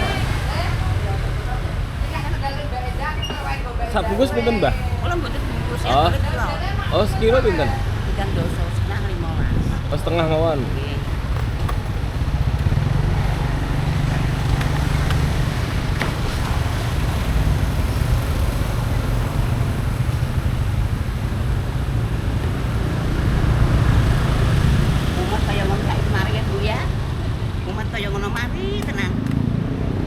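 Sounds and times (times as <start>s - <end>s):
motorcycle and road traffic rumble: 0.0s - 30.0s.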